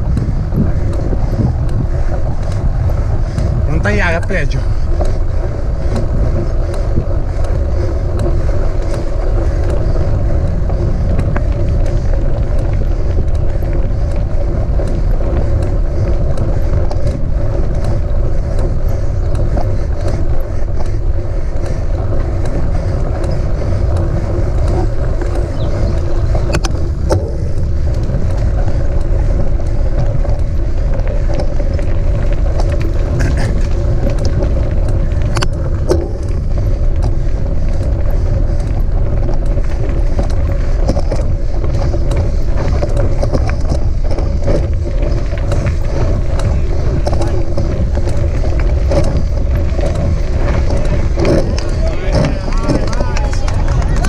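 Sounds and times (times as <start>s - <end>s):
bike clicks and rattles: 0.0s - 54.0s
bike tyres rumbling on gravel: 0.0s - 54.0s.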